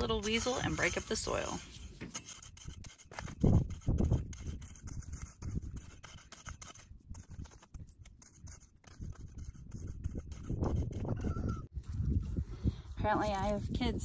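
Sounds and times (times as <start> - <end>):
cultivator scraping through dry soil: 0.0 - 14.0.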